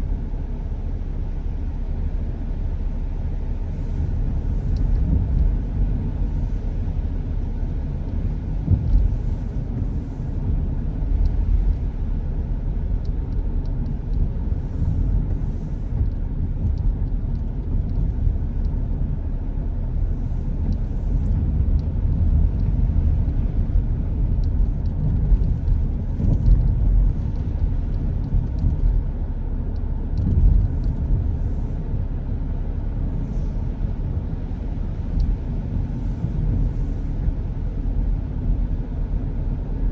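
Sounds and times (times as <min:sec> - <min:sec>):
car driving on rainy road: 0:00.0 - 0:39.9.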